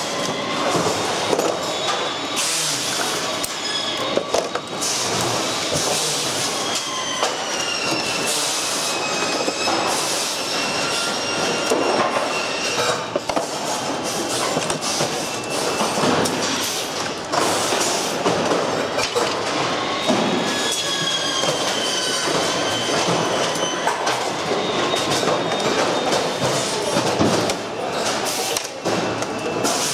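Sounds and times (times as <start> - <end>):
high squeals of parts rubbing: 0.0 - 17.0, 19.5 - 27.0
steady workshop noise: 0.0 - 29.9.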